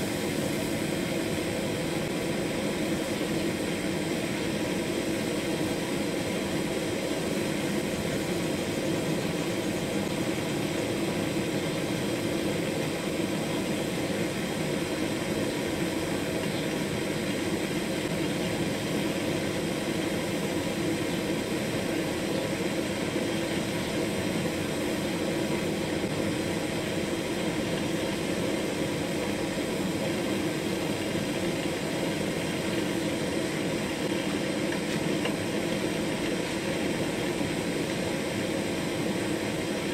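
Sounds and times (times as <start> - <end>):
gas torch burning: 0.0 - 39.9.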